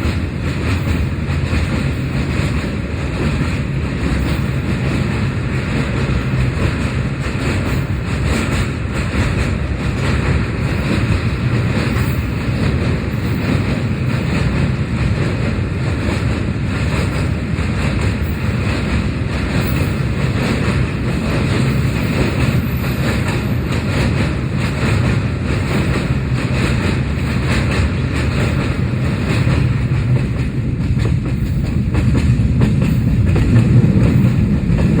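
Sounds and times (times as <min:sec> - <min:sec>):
train rumbling on rails: 0:00.0 - 0:35.0
train wheels clattering: 0:00.0 - 0:35.0.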